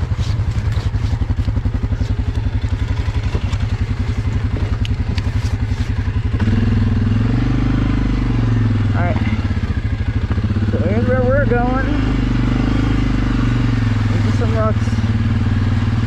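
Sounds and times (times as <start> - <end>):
atv engine idling: 0.0 - 16.0.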